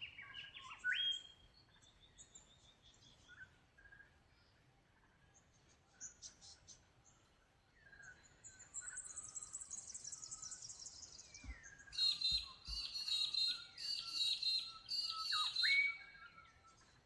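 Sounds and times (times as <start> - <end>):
soft whistled bird notes: 0.0 - 4.6, 5.2 - 17.0
bird chirping: 0.0 - 17.0.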